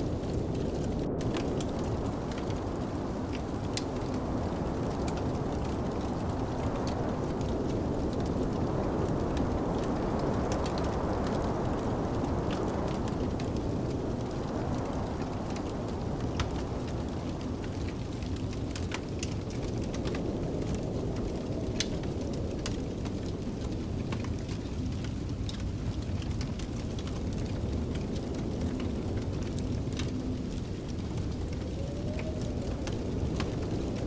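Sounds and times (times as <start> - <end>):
snowstorm wind whistling: 0.0 - 34.0
wood fire crackling and popping: 0.0 - 34.0.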